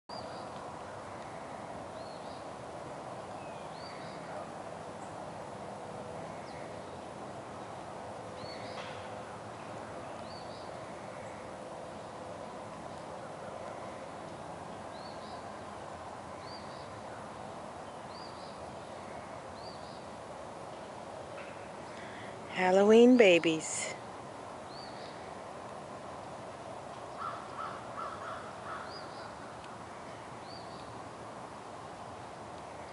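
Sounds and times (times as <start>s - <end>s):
faint steady hum: 0.1s - 32.9s
steady background hiss: 0.1s - 32.9s.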